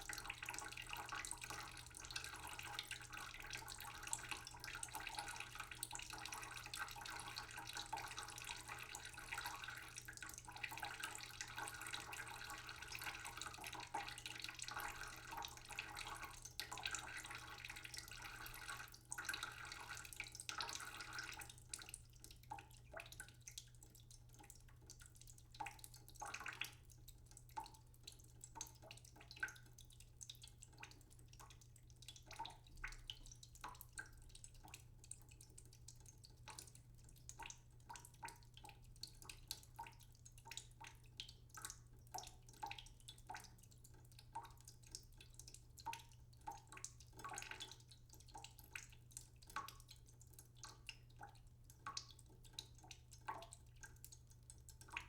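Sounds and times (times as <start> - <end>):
water dripping: 0.0 - 55.0.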